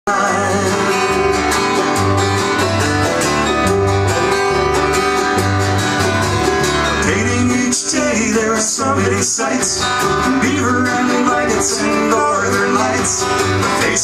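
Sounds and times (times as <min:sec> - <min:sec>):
bass line: 0:00.1 - 0:14.0
strummed acoustic guitar: 0:00.1 - 0:14.0.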